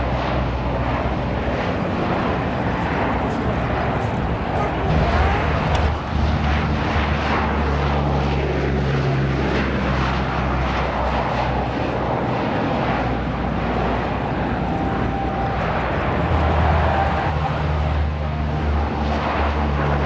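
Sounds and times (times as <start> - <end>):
turboprop engines at high power: 0.0 - 20.0.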